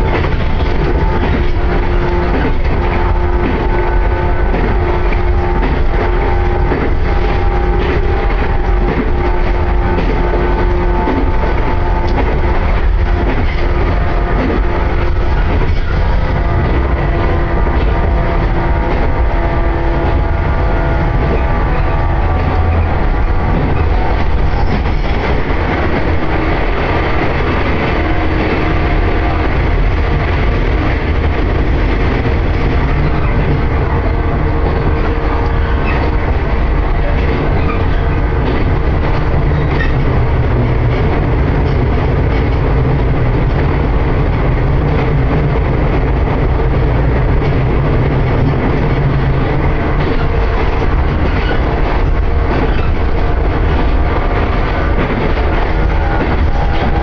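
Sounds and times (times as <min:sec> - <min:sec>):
train rumble from inside carriage: 0:00.0 - 0:57.0.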